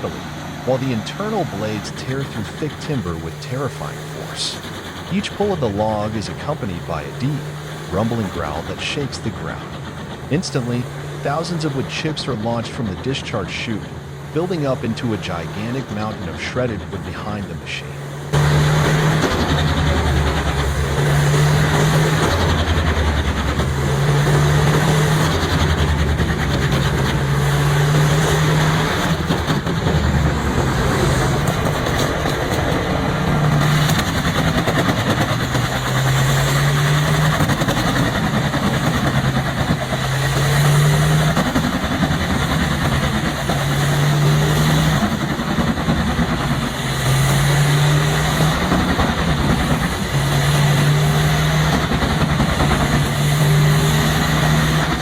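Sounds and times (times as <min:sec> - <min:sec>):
wood chipper engine droning: 0:00.0 - 0:55.0
wood grinding in chipper: 0:00.0 - 0:55.0.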